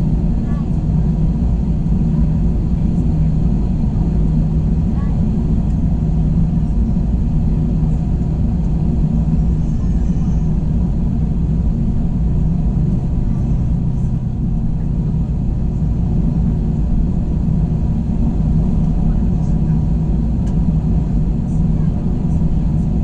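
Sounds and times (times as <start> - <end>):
aircraft cabin engine drone: 0.0 - 23.0
airflow rumble: 0.0 - 23.0
low steady hum: 0.0 - 23.0.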